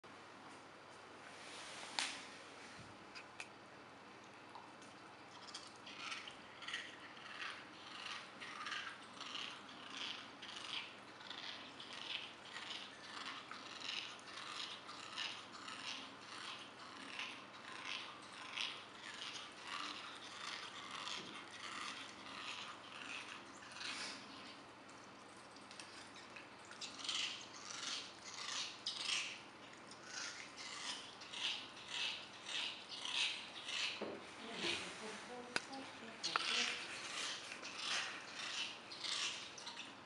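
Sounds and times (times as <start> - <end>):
puppy chewing: 3.1 - 40.0.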